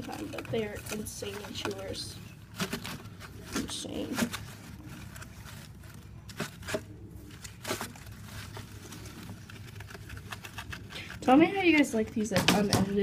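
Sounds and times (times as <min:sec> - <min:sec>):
gerbils rustling in paper bedding: 0:00.0 - 0:13.0.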